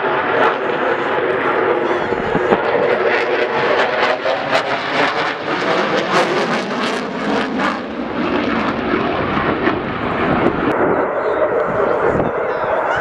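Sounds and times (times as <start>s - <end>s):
loud jet engine noise: 0.0s - 13.0s.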